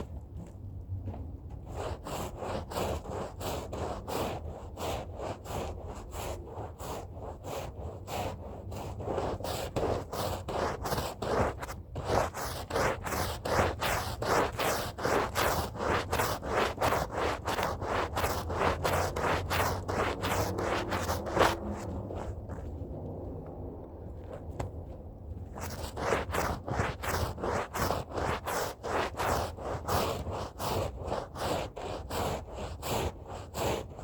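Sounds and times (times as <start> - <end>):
brush scrubbing a rug: 1.4 - 34.0.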